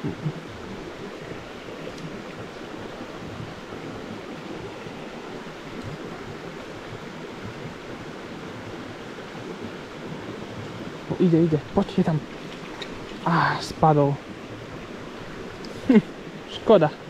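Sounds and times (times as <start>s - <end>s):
brook water flowing over stones: 0.0s - 17.0s.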